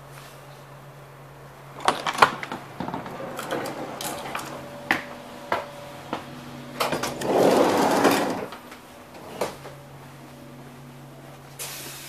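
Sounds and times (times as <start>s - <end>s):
train equipment hum: 0.0s - 12.0s
sliding door opening: 1.6s - 12.0s
footsteps: 1.8s - 12.0s.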